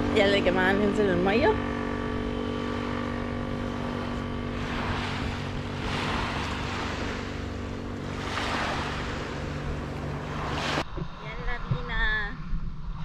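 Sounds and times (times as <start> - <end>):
small waves washing on beach: 0.0 - 10.8
engine humming: 0.0 - 11.2.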